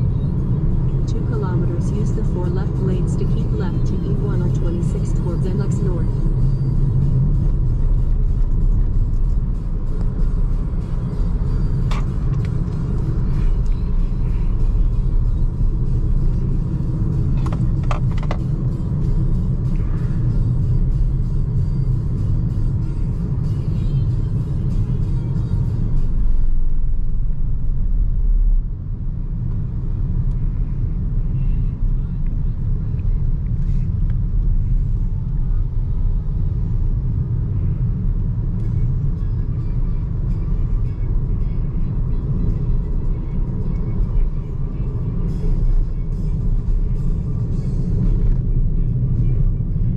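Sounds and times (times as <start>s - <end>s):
road and tyre rumble in car: 0.0s - 49.9s.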